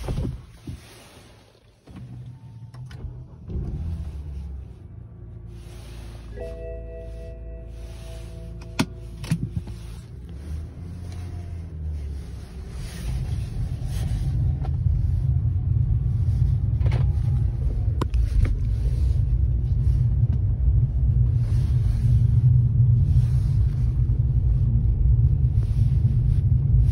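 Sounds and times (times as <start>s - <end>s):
car engine rumble inside cabin: 0.0s - 26.9s.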